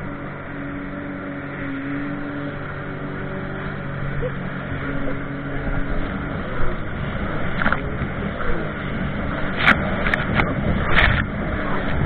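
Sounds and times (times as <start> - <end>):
watercraft engine running: 0.0 - 12.0.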